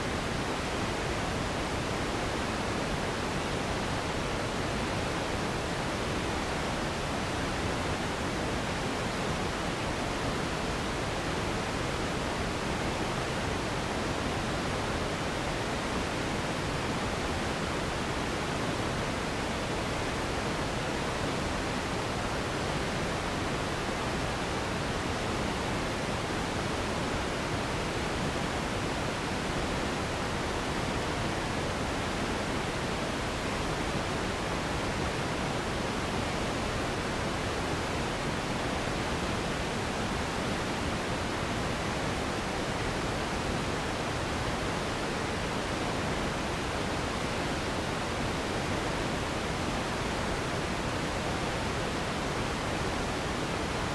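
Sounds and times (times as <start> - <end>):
steady pink noise: 0.0 - 53.9.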